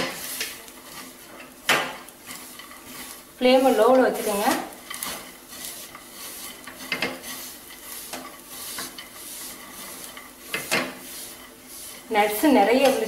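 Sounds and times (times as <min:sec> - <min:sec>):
faint sizzle of ghee: 0:00.0 - 0:13.0
spoon stirring and scraping pan: 0:00.0 - 0:13.0.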